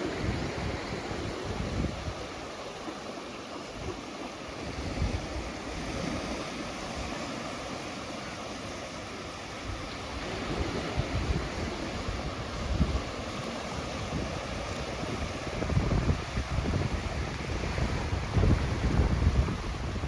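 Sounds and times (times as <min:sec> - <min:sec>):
wind rumbling on microphone: 0:00.0 - 0:02.9, 0:03.6 - 0:07.2, 0:09.5 - 0:20.0
ocean surf washing onto beach: 0:00.0 - 0:20.0.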